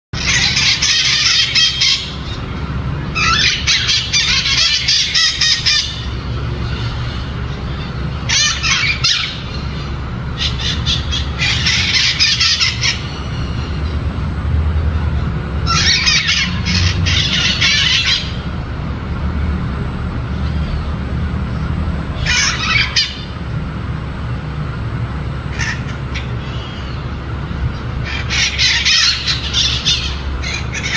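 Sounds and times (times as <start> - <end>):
parrots squawking: 0.2 - 24.2, 25.0 - 30.9
steady low rumble: 0.2 - 30.9.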